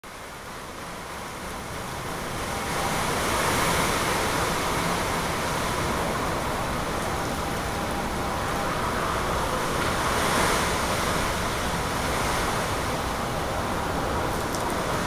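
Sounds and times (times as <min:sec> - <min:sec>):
driving rain: 0:00.0 - 0:15.0.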